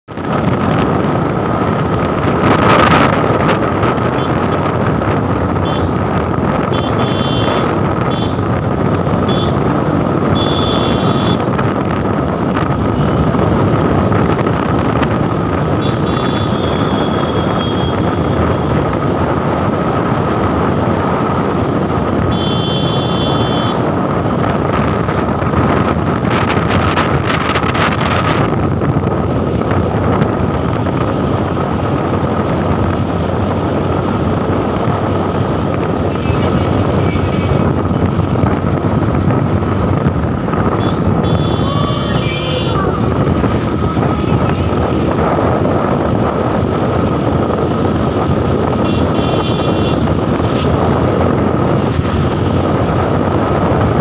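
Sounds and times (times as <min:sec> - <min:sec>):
wind rushing over microphone: 0:00.0 - 0:54.0
motorcycle engine: 0:00.1 - 0:54.0.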